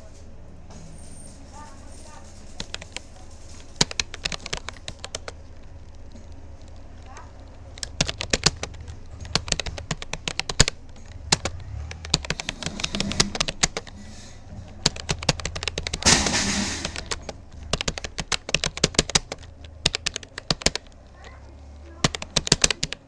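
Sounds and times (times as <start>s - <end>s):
keyboard key clicks: 2.6s - 23.0s.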